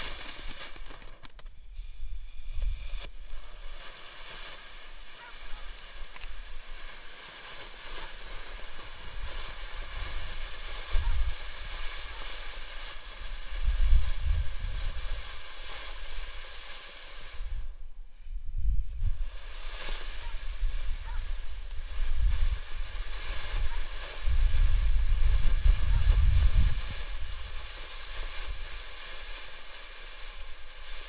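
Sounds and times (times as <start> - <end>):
firework sparks hissing: 0.0 - 31.0.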